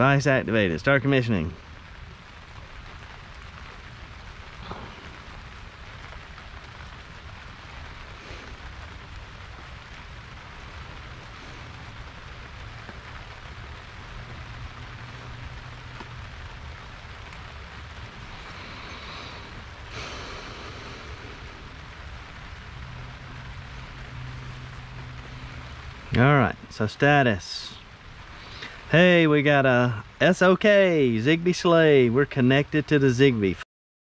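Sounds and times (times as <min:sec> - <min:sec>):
background hiss: 0:00.0 - 0:33.6
low hum: 0:01.5 - 0:31.1.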